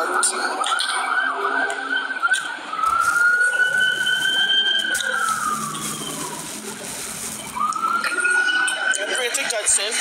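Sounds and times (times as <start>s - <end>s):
emergency vehicle siren wailing: 0.0s - 9.3s.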